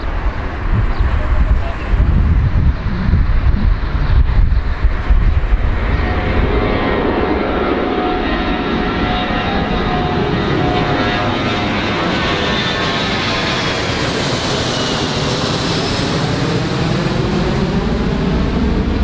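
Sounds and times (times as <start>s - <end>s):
airplane engines running: 0.0s - 19.0s.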